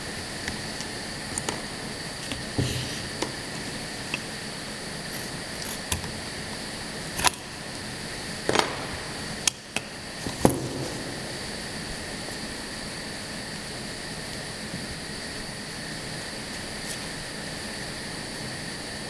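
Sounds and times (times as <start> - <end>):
machine hum with high whine: 0.0 - 19.0.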